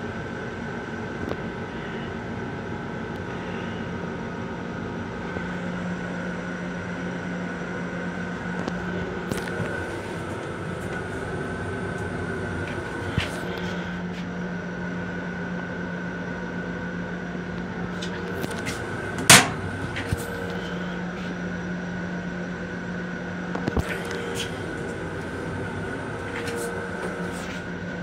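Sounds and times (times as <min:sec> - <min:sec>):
railcar interior hum: 0:00.0 - 0:28.0.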